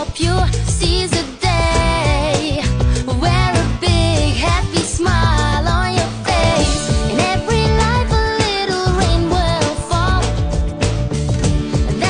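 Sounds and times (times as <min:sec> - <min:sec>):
pop song with singing: 0:00.0 - 0:12.0.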